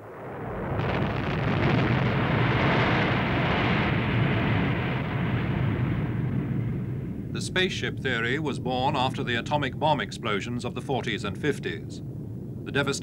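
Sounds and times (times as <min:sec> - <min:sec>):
explosion rumble: 0:00.0 - 0:13.0.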